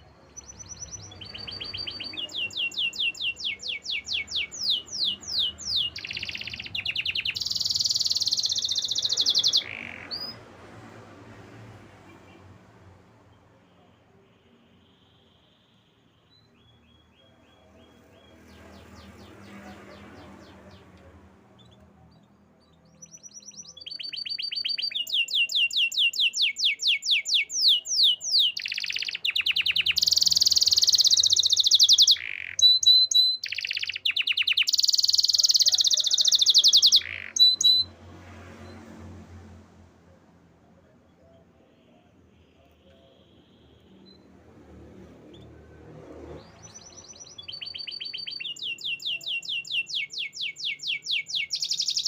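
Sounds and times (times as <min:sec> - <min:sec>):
canary singing trills: 0:00.0 - 0:10.5, 0:13.4 - 0:38.0, 0:40.8 - 0:52.0.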